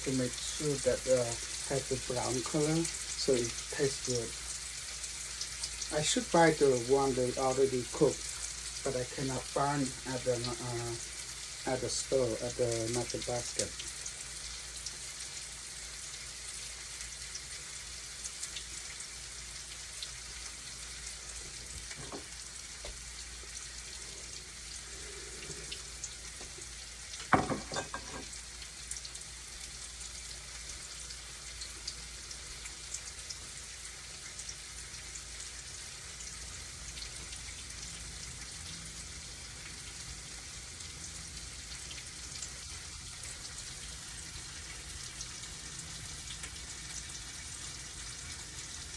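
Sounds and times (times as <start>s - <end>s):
tofu sizzling in hot oil: 0.0s - 48.9s.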